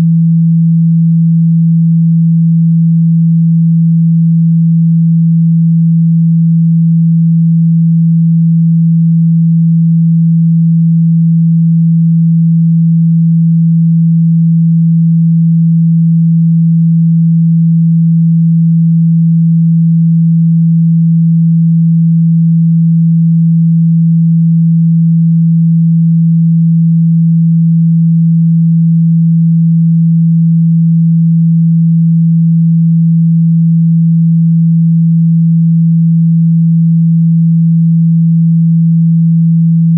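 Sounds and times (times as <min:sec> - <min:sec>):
low pure tone: 0:00.0 - 0:39.9.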